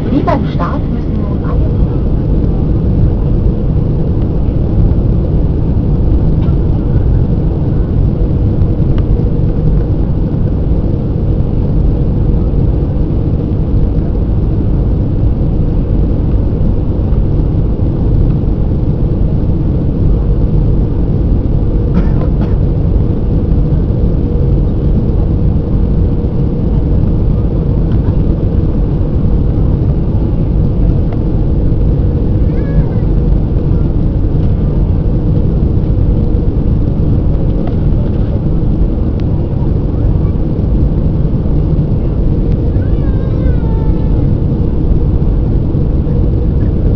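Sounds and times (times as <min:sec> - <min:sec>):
airliner engine roar: 0:00.0 - 0:46.9
faint steady hum: 0:00.0 - 0:46.9.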